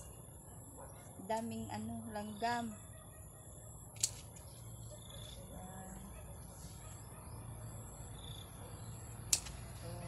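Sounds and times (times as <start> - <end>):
distant bird calls: 0.0 - 10.0.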